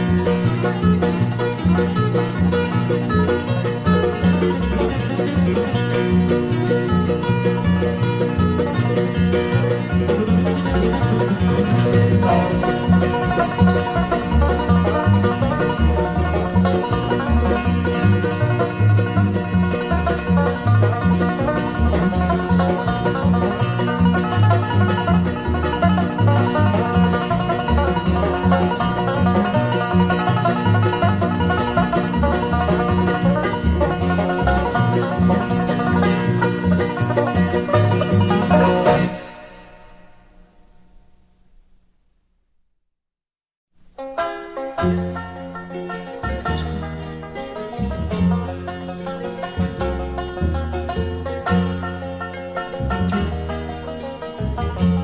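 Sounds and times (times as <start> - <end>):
guitar: 0.0 - 41.7, 43.8 - 55.0
banjo picking lead: 0.0 - 42.1, 43.7 - 55.0
mandolin: 0.0 - 42.4, 43.8 - 55.0
bass: 0.0 - 42.8, 43.7 - 55.0.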